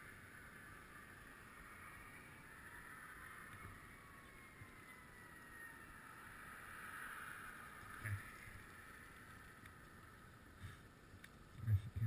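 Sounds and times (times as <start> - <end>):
faint falling tone: 0.0 - 10.8
faint steady hiss: 0.0 - 12.0.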